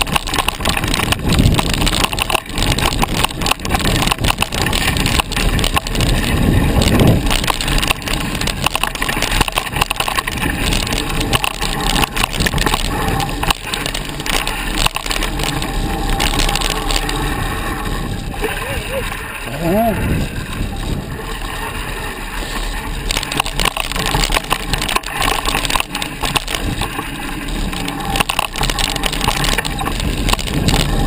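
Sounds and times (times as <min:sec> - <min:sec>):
bike rattling over bumps: 0:00.0 - 0:31.0
tyre noise on dirt: 0:00.0 - 0:31.0.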